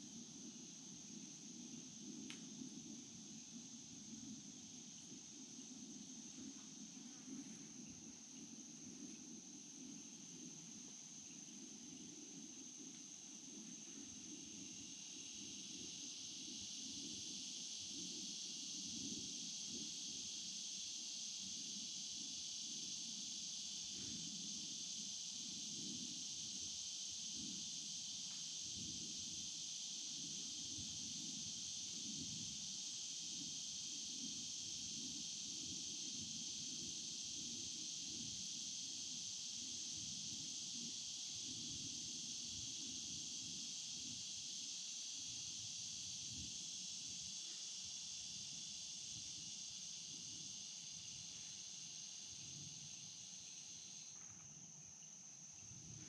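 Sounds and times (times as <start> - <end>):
insects chorus: 0.0 - 56.0.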